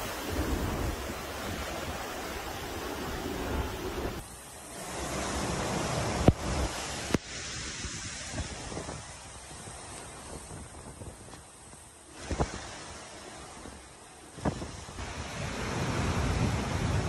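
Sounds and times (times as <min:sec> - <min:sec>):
wind buffeting microphone: 0:00.0 - 0:04.2, 0:04.9 - 0:17.0
wind and rain rushing: 0:00.0 - 0:17.0.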